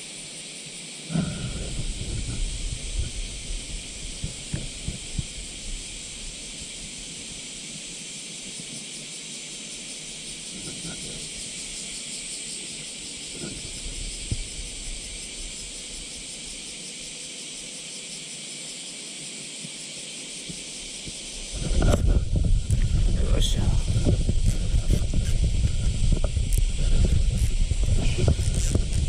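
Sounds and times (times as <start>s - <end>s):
cicadas chorus: 0.0s - 29.0s.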